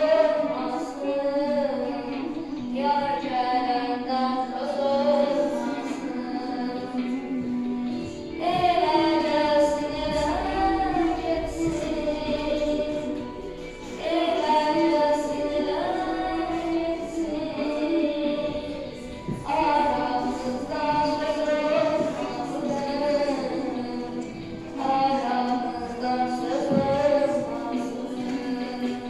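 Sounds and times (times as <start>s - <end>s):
boy singing into a microphone: 0.0s - 29.0s
music backing track: 0.0s - 29.0s.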